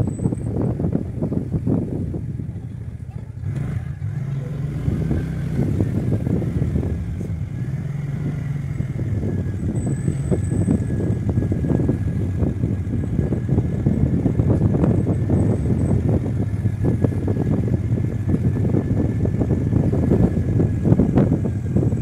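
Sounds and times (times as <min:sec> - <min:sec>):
scooter engine running: 0:00.0 - 0:22.0
wind buffeting microphone: 0:00.0 - 0:22.0.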